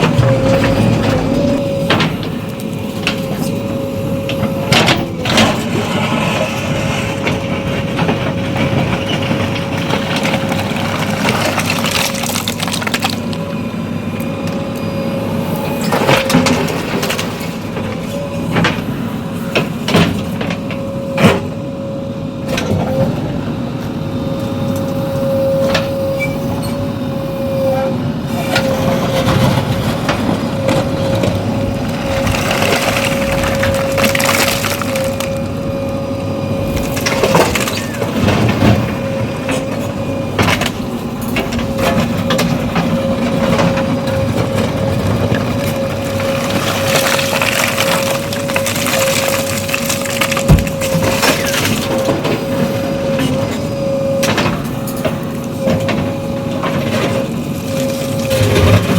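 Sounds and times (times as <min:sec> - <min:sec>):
heavy diesel machinery running: 0:00.0 - 0:58.9.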